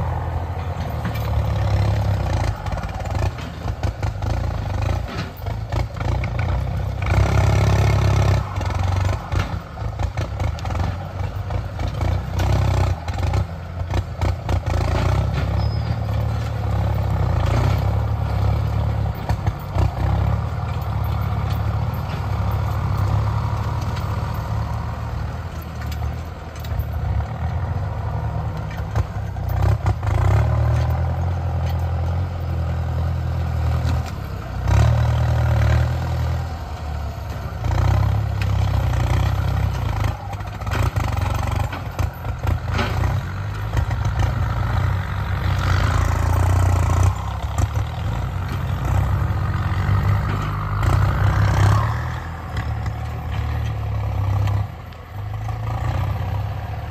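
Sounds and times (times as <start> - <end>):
tractor engines labouring: 0.0 - 56.9.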